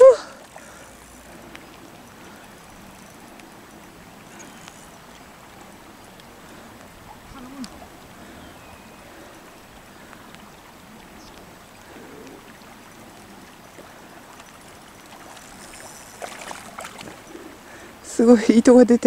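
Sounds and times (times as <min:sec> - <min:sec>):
river current over stones: 0:00.0 - 0:19.0
water splashing and clicking: 0:00.0 - 0:19.0.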